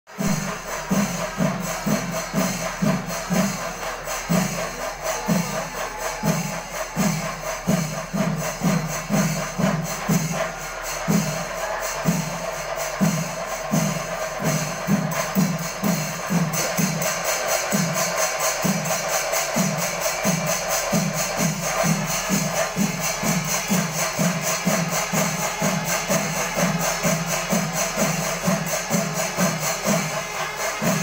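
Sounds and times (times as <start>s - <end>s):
drums beating: 0.1s - 31.0s
hand cymbals clashing: 0.1s - 31.0s.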